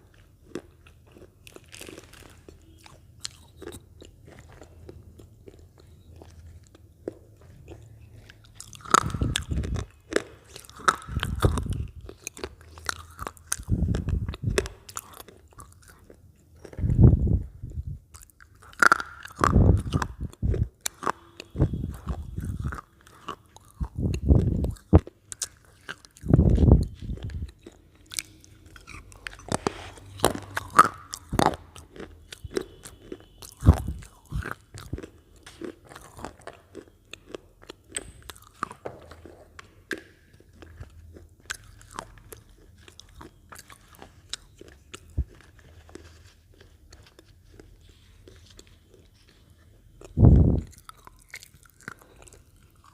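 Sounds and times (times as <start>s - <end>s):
potato chips crunching: 0.0s - 16.9s, 18.1s - 52.9s.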